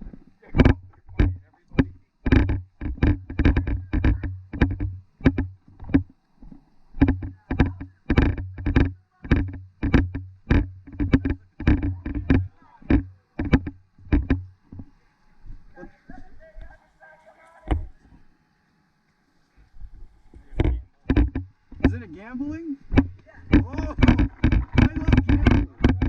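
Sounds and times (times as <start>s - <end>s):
footsteps walking: 2.3s - 26.0s.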